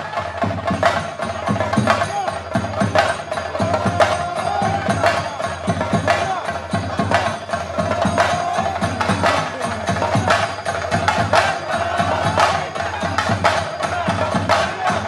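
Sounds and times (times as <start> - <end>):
ritual drumming and percussion: 0.0 - 15.0.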